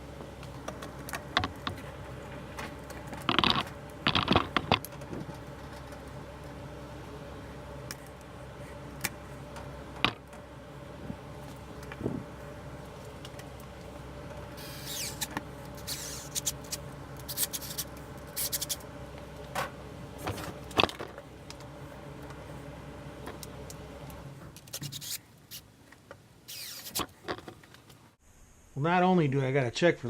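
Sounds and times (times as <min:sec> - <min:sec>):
steady machine hum: 0:00.0 - 0:29.2.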